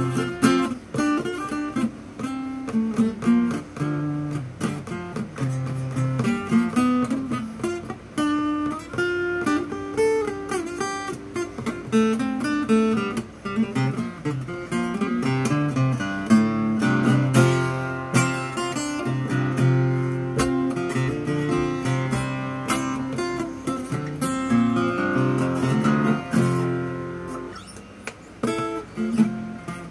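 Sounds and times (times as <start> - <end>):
acoustic guitar picking: 0.0 - 29.9.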